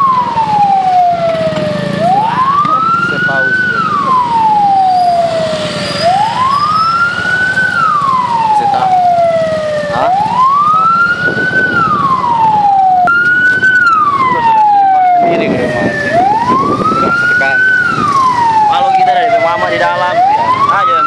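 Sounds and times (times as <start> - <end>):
emergency siren wailing: 0.0 - 21.0
low engine and road noise: 0.0 - 21.0.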